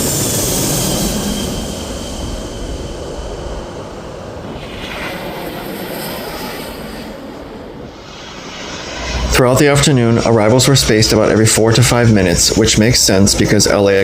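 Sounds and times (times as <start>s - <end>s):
jet airliner engine roar: 0.0s - 14.0s.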